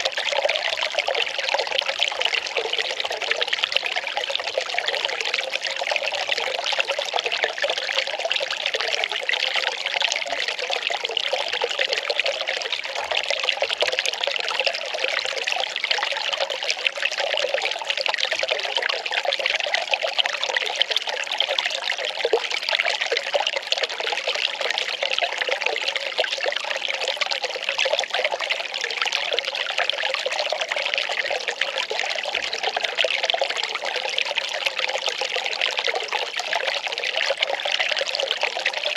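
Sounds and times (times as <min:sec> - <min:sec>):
water pouring and trickling: 0:00.0 - 0:38.9.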